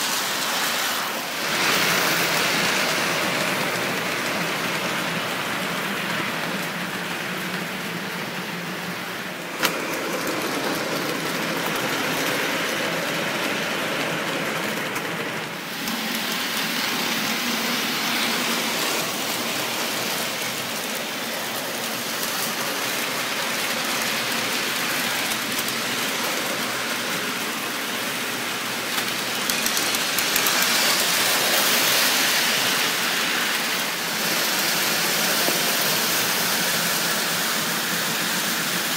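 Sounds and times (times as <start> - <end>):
toy trains rumbling on metal track: 0.0 - 38.9.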